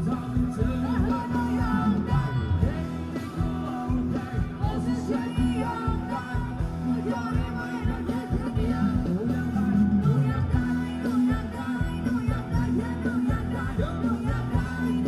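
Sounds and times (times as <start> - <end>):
fast drum beat: 0.0 - 15.0
live band dance music: 0.0 - 15.0
person singing: 0.0 - 15.0.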